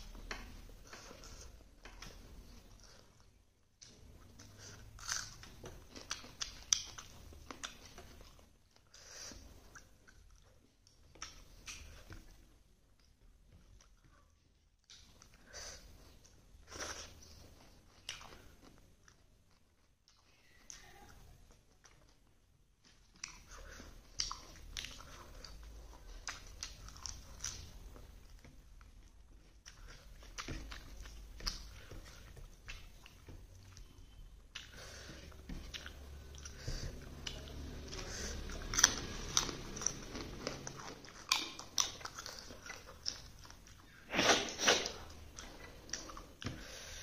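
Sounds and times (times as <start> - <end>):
chewing food: 0.0 - 47.0.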